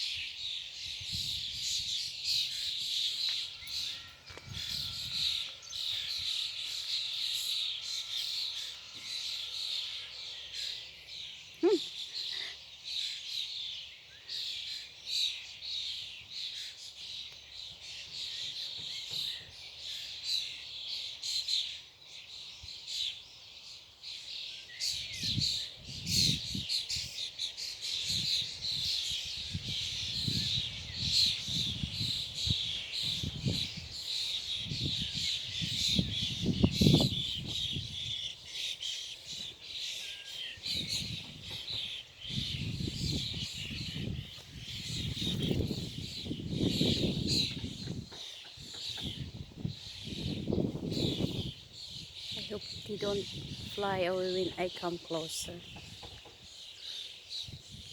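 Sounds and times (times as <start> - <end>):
flock of birds chirping: 0.0 - 57.9.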